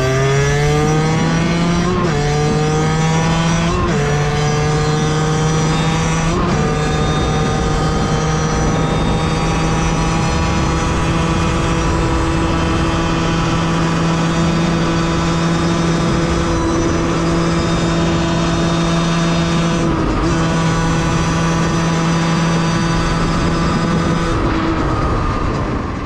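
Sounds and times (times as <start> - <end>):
two-stroke engine revving high: 0.0 - 26.0.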